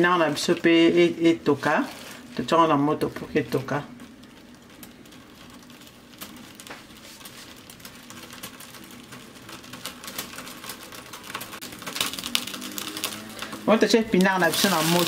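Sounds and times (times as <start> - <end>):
spinach crackling in a pot: 0.0 - 15.0.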